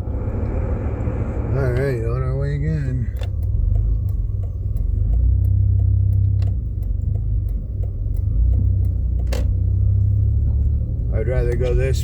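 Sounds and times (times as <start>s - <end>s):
engine and tyre rumble: 0.0s - 12.0s
turn signal ticking: 0.3s - 12.0s.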